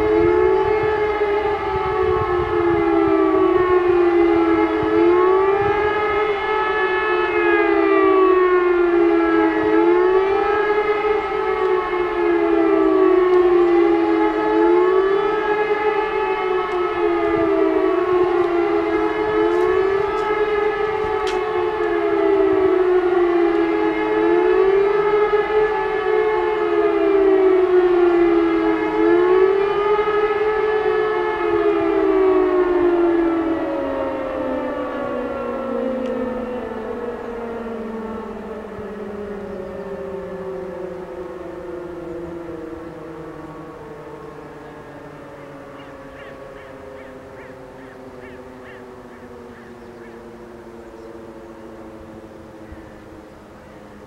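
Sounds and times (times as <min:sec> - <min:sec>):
sirens wailing: 0:00.0 - 0:54.0.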